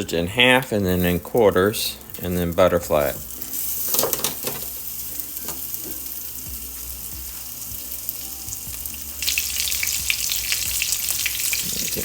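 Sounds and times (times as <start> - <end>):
sausage sizzling in a frying pan: 0.7 - 12.0.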